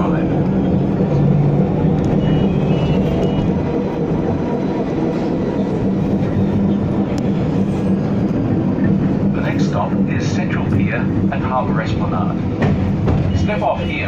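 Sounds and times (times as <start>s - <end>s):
tram interior rumble: 0.0s - 14.0s.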